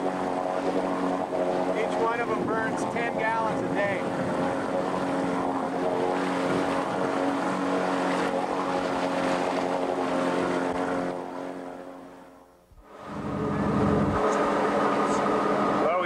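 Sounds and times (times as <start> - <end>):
boat engine running: 0.0 - 16.0
water noise: 0.0 - 16.0
wind: 0.0 - 16.0.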